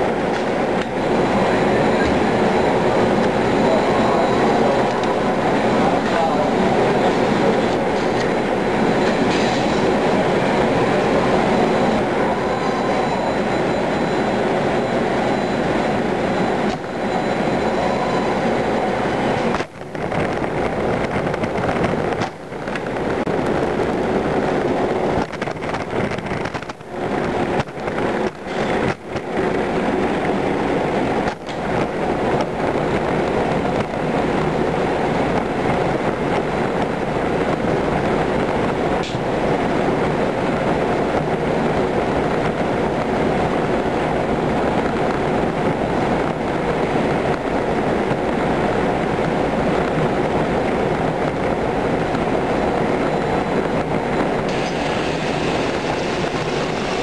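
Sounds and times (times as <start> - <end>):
conveyor rattle and hum: 0.0 - 57.0.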